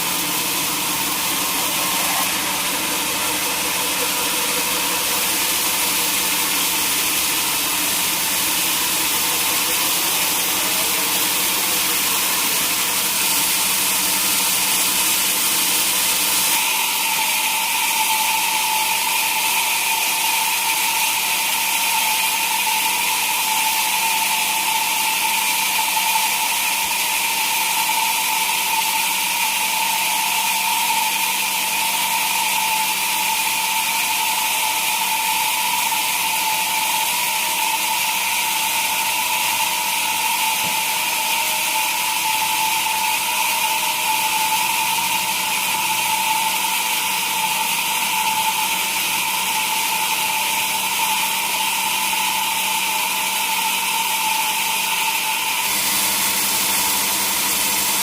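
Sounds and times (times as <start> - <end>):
sawmill machinery whine: 0.0 - 58.0.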